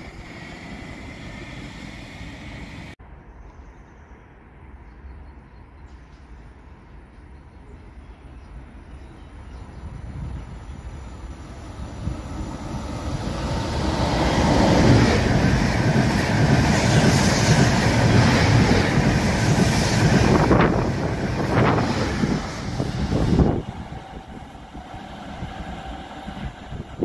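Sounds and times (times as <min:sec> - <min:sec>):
rumble of wheels on rail: 0:00.0 - 0:03.0, 0:05.0 - 0:27.0.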